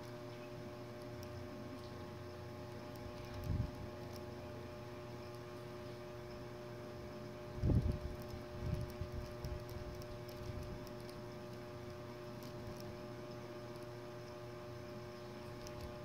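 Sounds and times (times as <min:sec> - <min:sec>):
faint ticks: 0:00.0 - 0:06.6, 0:07.6 - 0:16.0
electrical hum: 0:00.0 - 0:16.0.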